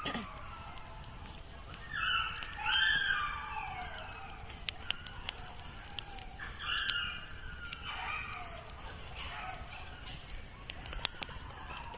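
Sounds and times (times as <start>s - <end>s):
campfire crackling: 0.0s - 11.9s.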